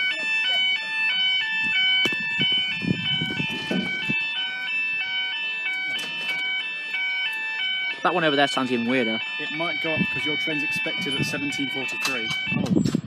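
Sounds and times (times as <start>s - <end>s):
level crossing alarm: 0.0s - 13.0s.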